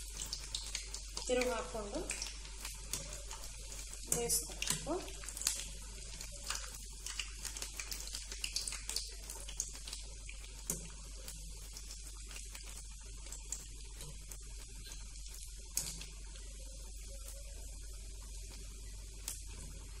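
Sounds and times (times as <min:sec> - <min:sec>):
deep-frying sizzle and pops: 0:00.0 - 0:20.0.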